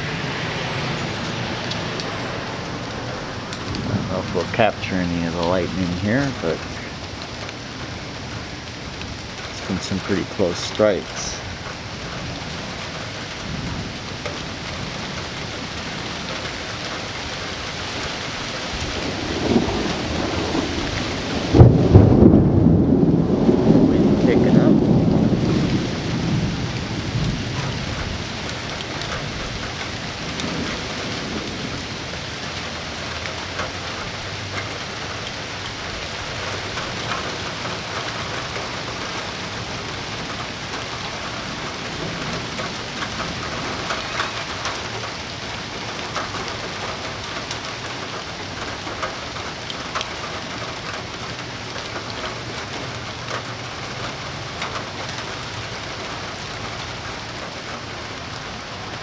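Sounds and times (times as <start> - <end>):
thunder rolling: 0.0 - 16.5, 17.9 - 34.6, 36.0 - 51.1
drips and splashes: 0.0 - 59.0
rain falling: 0.0 - 59.0.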